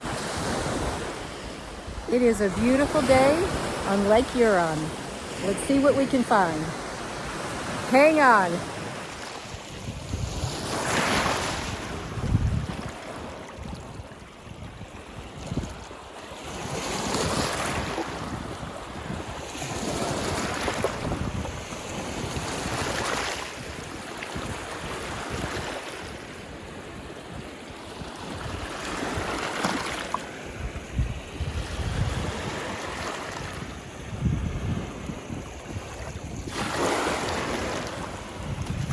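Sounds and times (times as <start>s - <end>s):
lake waves washing onto shore: 0.0s - 38.9s
wind buffeting microphone: 0.0s - 38.9s.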